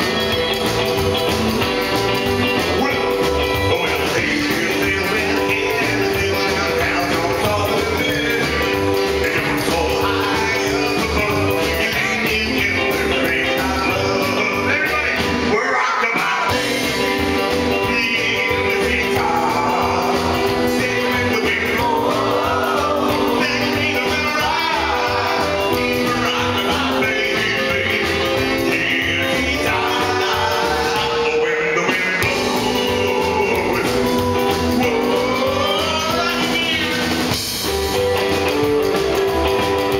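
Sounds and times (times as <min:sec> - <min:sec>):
rock and roll band playing: 0:00.0 - 0:39.9
man singing: 0:02.4 - 0:37.4.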